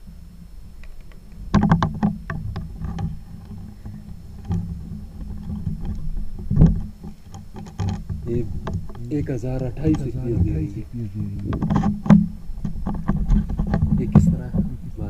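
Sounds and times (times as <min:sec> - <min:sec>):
steady low rumble: 0:00.0 - 0:15.0
heavy thump: 0:01.5 - 0:15.0.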